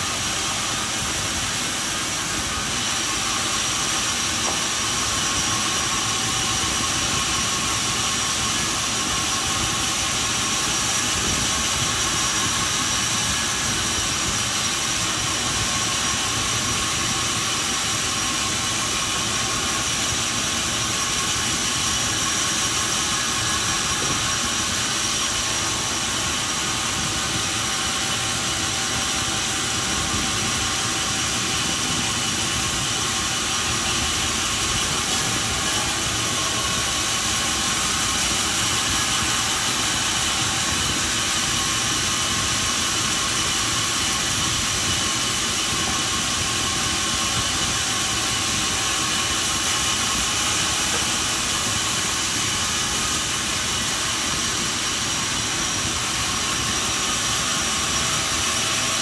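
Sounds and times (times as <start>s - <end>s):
band saw cutting boards: 0.0s - 59.0s.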